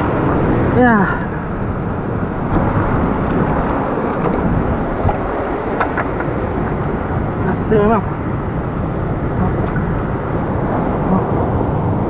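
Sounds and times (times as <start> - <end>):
surf washing against rocks: 0.0 - 12.0
wind buffeting microphone: 0.0 - 12.0.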